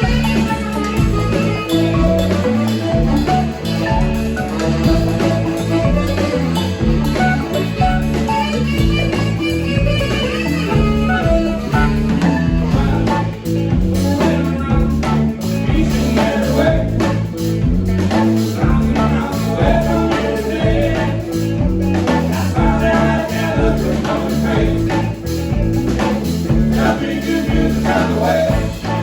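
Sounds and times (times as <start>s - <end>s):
bass: 0.0s - 29.0s
drums: 0.0s - 29.0s
guitar: 0.0s - 29.0s.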